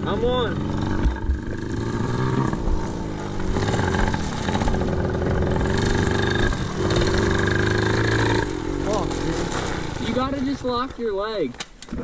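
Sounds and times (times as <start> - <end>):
small motorbike engine revving: 0.0 - 10.3.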